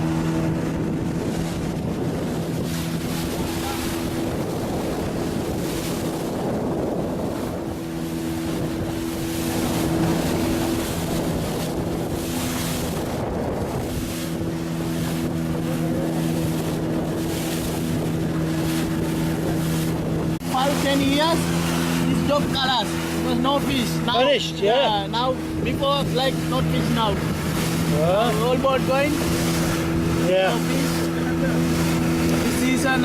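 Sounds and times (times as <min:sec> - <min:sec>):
boat engine humming: 0:00.0 - 0:33.0
water rushing: 0:00.0 - 0:33.0
wind buffeting microphone: 0:00.0 - 0:33.0.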